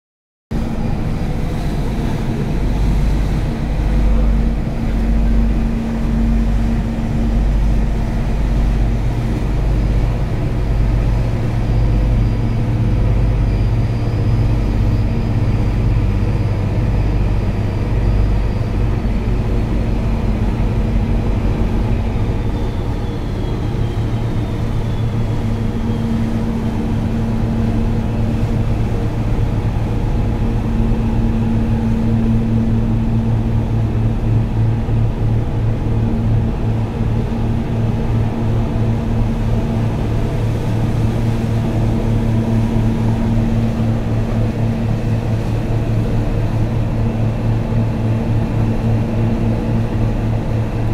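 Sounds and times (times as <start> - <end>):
diesel engines droning: 0.6 - 50.9.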